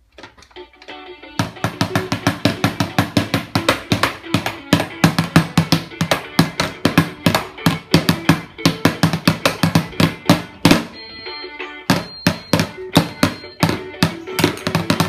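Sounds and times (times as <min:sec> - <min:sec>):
plastic toy drum beaten fast: 0:01.4 - 0:11.0, 0:11.9 - 0:15.0.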